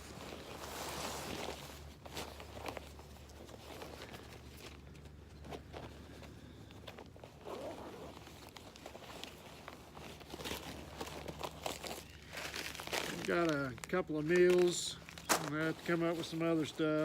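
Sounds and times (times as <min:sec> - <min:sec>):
rustling of camping gear: 0:00.0 - 0:17.0.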